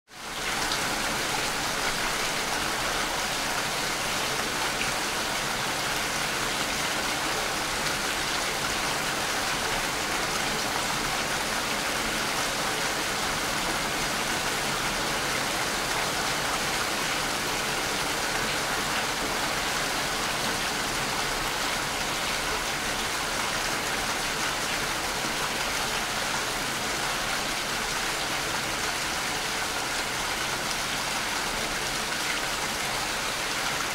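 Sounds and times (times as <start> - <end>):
steady rainfall: 0.1 - 33.9.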